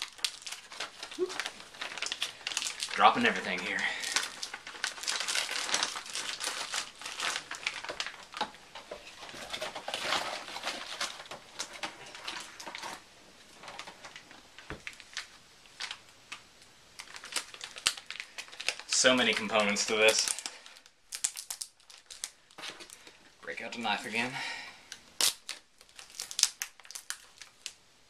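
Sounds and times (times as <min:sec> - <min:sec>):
packaging crinkling: 0:00.0 - 0:16.4, 0:17.0 - 0:27.8.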